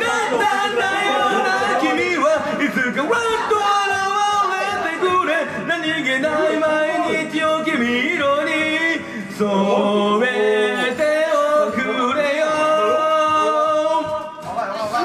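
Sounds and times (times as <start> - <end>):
backing track music: 0.0 - 15.0
man singing karaoke: 0.0 - 15.0.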